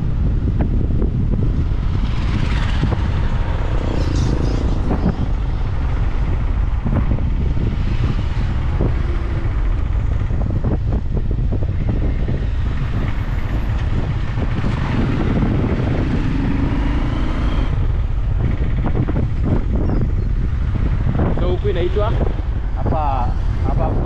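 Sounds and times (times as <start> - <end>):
motorcycle engine: 0.0 - 21.2
road noise: 0.0 - 24.0
wind buffeting microphone: 0.0 - 24.0.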